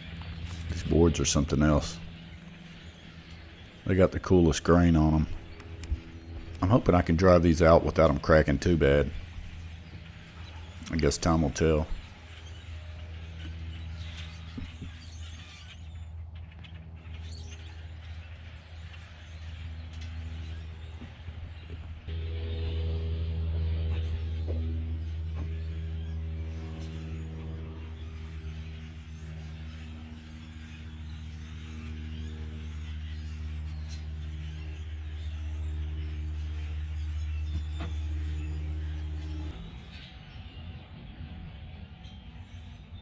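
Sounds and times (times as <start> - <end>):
engine idling: 0.0 - 18.2, 18.8 - 40.2.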